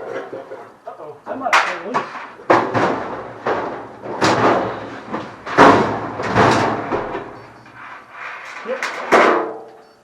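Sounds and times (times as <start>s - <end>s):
metal parts clunking and banging: 1.5s - 9.8s.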